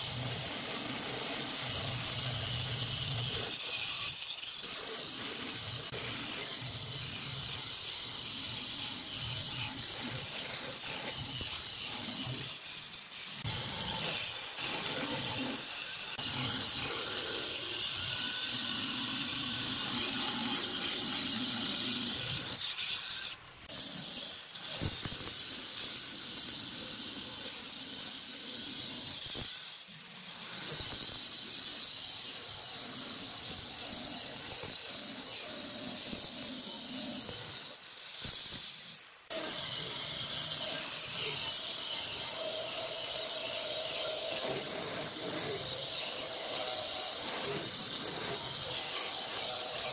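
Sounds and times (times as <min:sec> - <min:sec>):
stone cutter grinding stone: 0:00.0 - 0:49.9.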